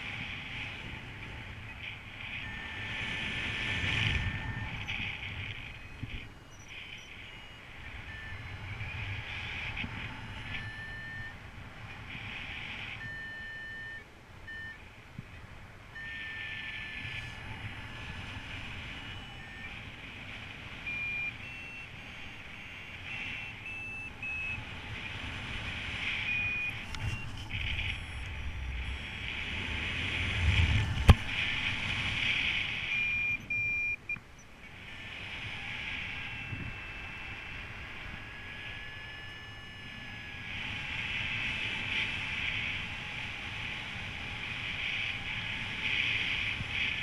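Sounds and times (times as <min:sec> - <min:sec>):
wind rush on microphone: 0:00.0 - 0:13.6, 0:15.0 - 0:47.0
variometer beeping: 0:00.0 - 0:15.0, 0:15.9 - 0:47.0.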